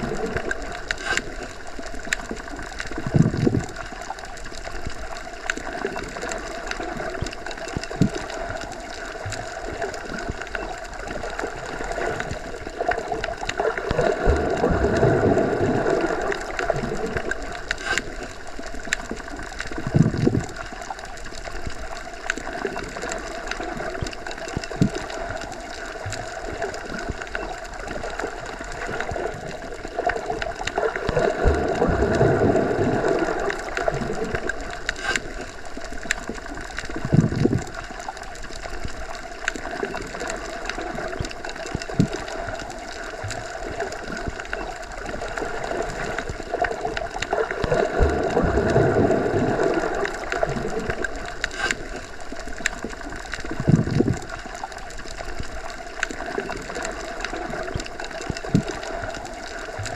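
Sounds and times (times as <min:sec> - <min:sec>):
muffled underwater rush: 0:00.0 - 0:59.9
faint clicks: 0:00.3 - 0:48.8.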